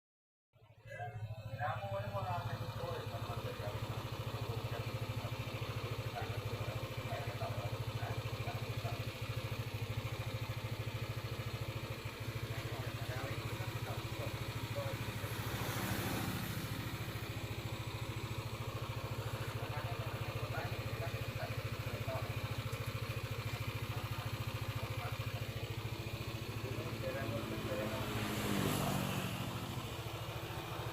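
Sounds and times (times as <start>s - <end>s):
scooter engine idling: 0.6s - 30.9s.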